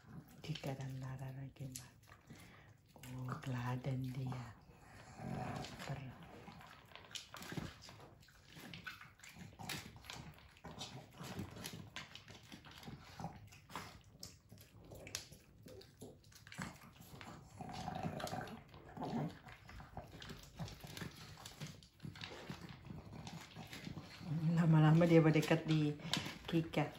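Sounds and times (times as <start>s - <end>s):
dogs crunching dry kibble: 0.0s - 26.9s.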